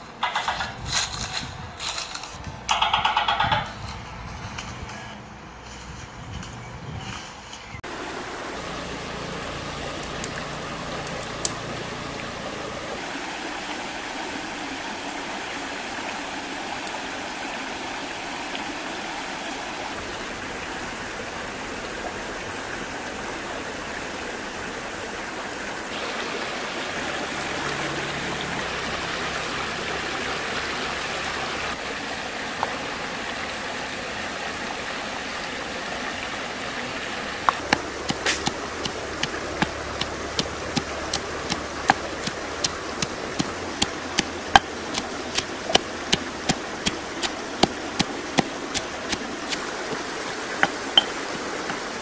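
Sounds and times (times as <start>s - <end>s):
stream rushing over rocks: 7.8s - 52.0s.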